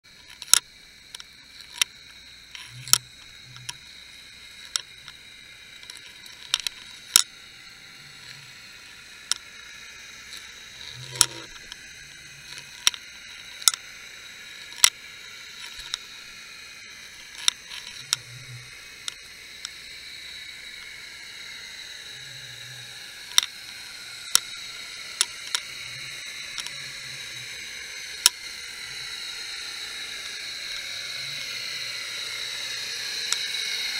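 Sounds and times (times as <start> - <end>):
sharp clicks underwater: 0.1 - 21.8, 23.2 - 33.9.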